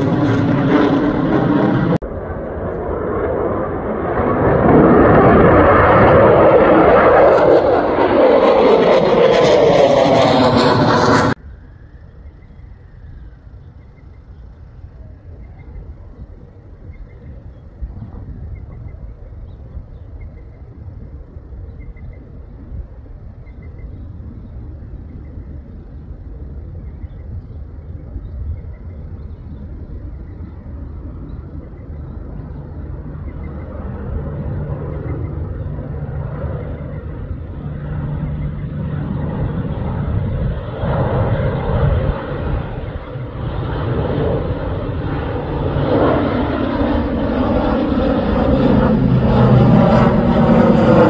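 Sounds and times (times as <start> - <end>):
propeller hum: 0.0 - 51.0
turboprop aircraft drone: 0.0 - 51.0.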